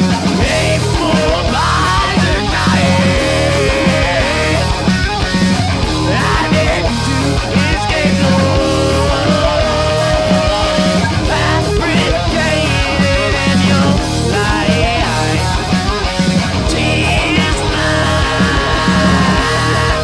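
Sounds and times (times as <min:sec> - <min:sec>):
punk rock band playing: 0:00.0 - 0:20.0.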